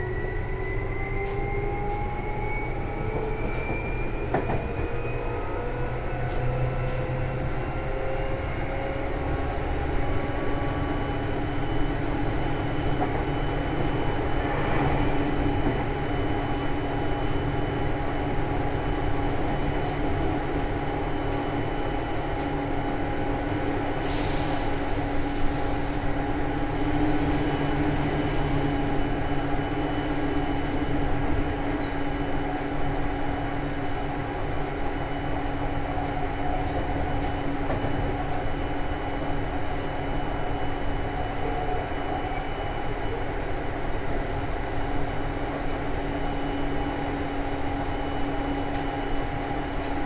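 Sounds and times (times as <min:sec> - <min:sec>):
train wheels and motors rumbling: 0:00.0 - 0:50.0.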